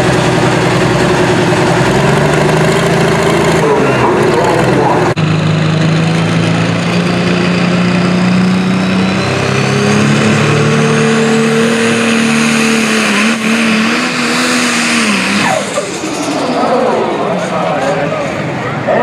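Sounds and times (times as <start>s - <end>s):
diesel tractor engine revving: 0.0s - 19.0s
high whine: 0.0s - 19.0s.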